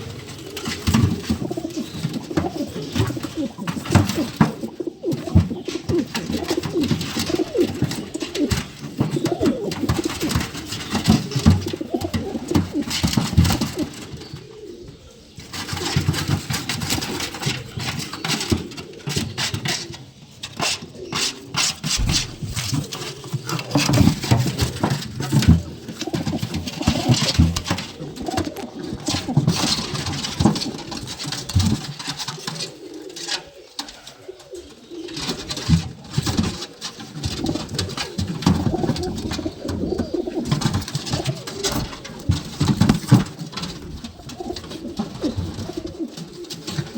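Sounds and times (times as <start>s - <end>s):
pigeons cooing: 0.0s - 46.9s
wing-flapping and scuffling: 0.0s - 46.9s.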